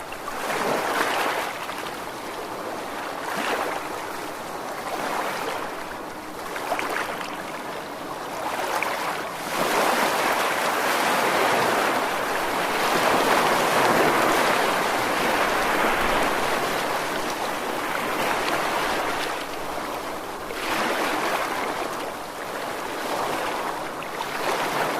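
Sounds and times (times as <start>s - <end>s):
rushing water: 0.0s - 24.9s.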